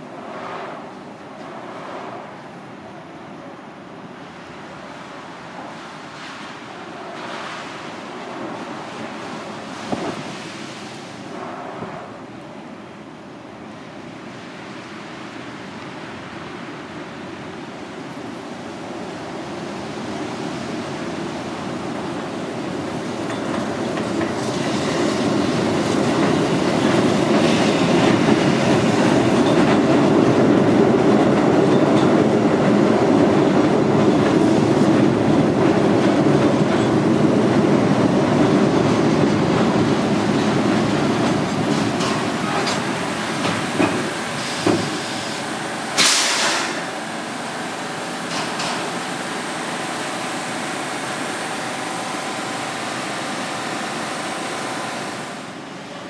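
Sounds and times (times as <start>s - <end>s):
subway train running past: 0.0s - 56.0s.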